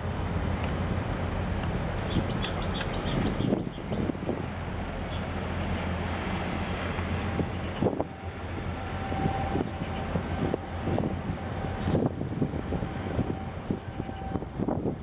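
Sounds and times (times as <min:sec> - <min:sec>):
ship low hum: 0:00.0 - 0:15.0
wind rushing over microphone: 0:00.0 - 0:15.0.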